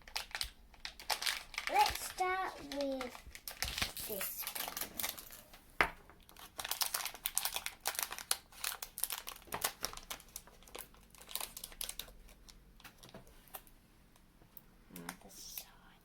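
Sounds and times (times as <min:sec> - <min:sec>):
candy wrapper crinkling: 0:00.0 - 0:05.5, 0:06.2 - 0:13.6.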